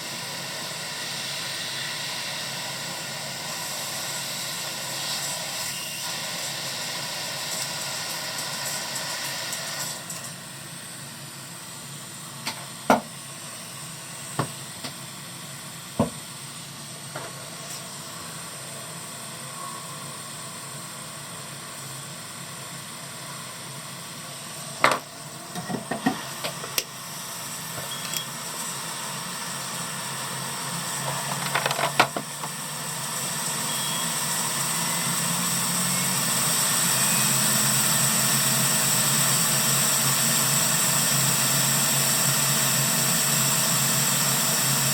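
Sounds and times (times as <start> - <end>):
hot air station hissing: 0.0 - 44.9.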